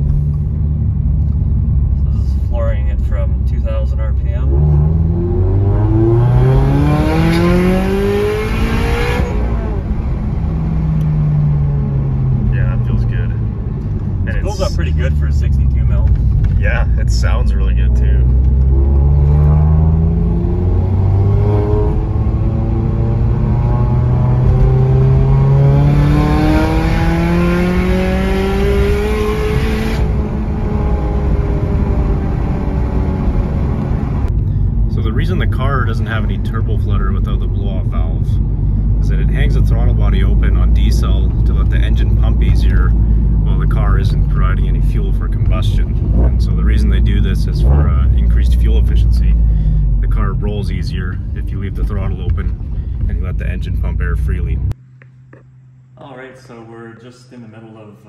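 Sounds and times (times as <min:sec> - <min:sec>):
car engine revving: 0:00.0 - 0:54.8.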